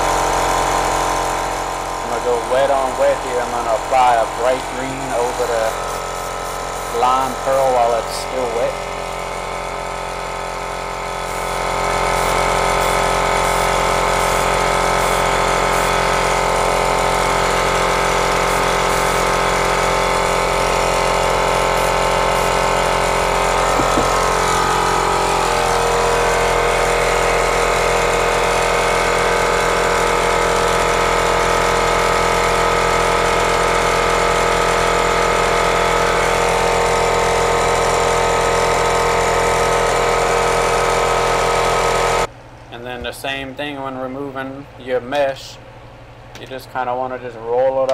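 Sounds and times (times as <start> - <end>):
hair dryer running: 0.0 - 42.3.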